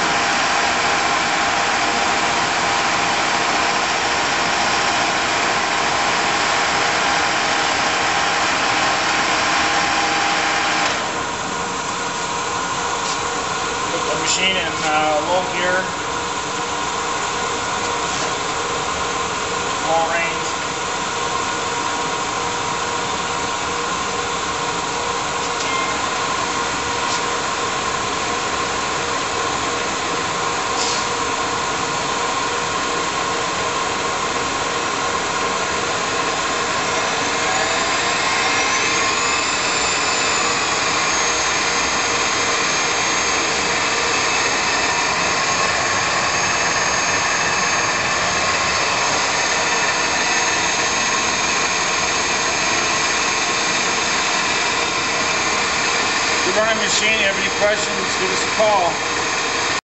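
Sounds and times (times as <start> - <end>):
high whine rising in pitch: 0.0 - 30.6, 31.3 - 59.8
lathe running: 0.0 - 59.8.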